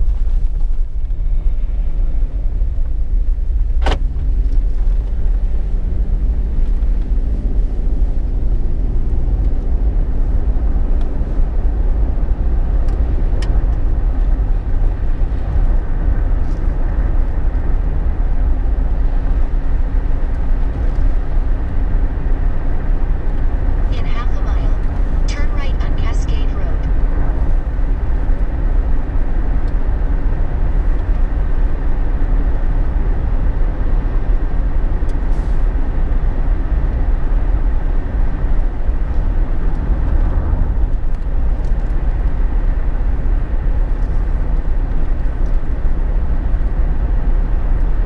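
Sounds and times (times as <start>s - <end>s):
road and engine rumble: 0.0s - 48.0s.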